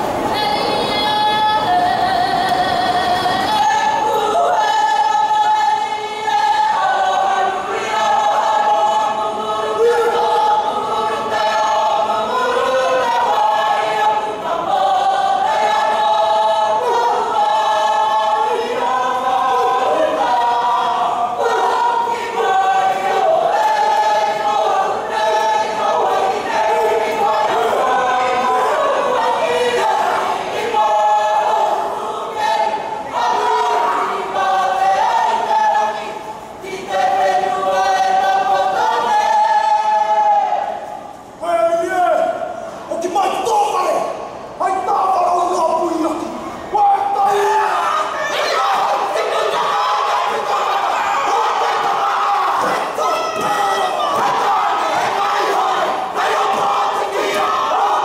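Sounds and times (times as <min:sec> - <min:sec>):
group singing together: 0:00.0 - 0:41.6, 0:45.8 - 0:58.0.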